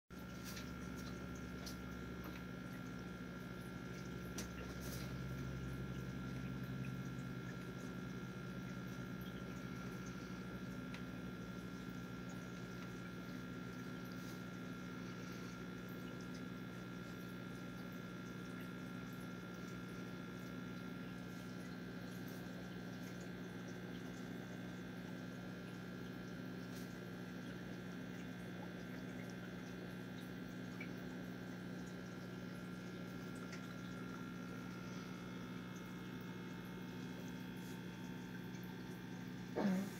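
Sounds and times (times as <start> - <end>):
aquarium filter pump humming: 0.1 - 39.9.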